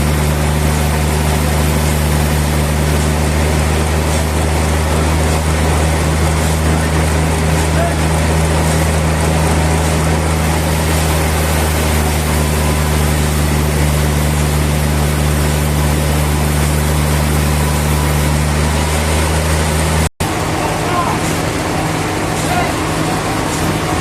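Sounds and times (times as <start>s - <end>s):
sawmill machinery humming: 0.0s - 24.0s.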